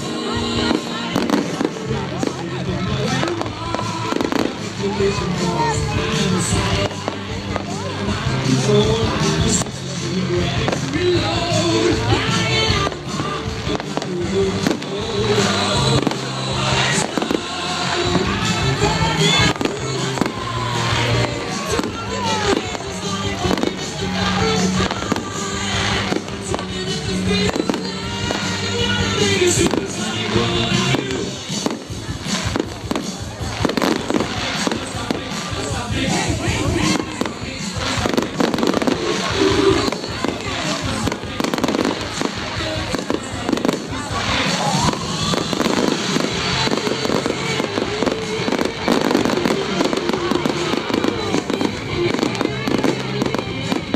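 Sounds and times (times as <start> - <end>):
fireworks bangs and crackles: 0.0 - 53.9
music playing: 0.0 - 53.9.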